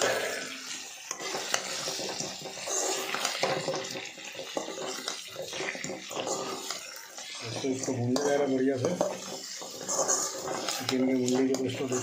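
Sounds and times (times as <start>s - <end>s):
food sizzling in hot oil: 0.0s - 12.0s
metal spatula scraping a pan: 0.0s - 12.0s.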